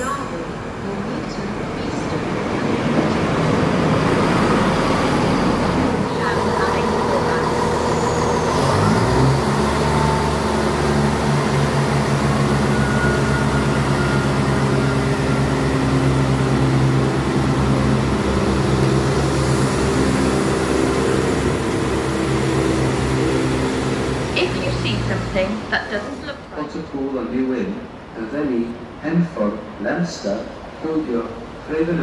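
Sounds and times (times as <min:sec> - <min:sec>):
diesel train engines under power: 0:00.0 - 0:32.0.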